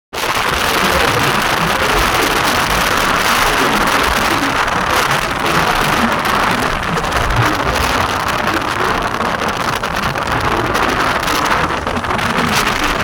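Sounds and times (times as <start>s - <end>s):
heavy rain falling: 0.2s - 13.0s
low rumbles: 0.2s - 13.0s.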